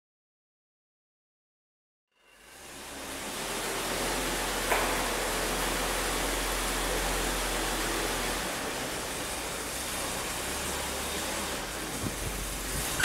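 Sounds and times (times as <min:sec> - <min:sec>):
pickup truck engine running: 0:02.5 - 0:13.0.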